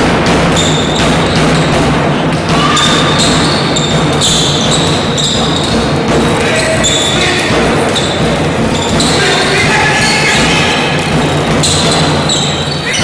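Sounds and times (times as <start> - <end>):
basketball bouncing: 0.0 - 13.0
gym hall noise: 0.0 - 13.0.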